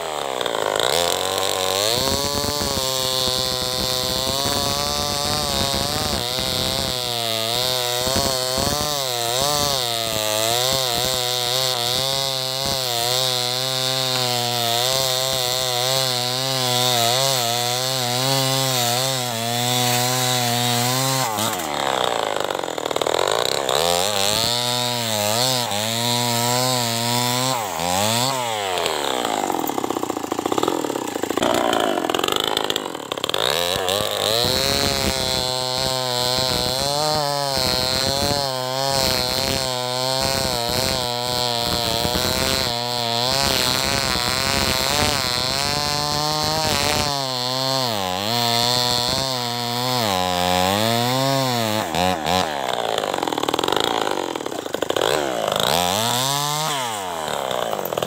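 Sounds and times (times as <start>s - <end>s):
chainsaw cutting log: 0.0s - 58.0s
chainsaw revving: 0.0s - 58.0s.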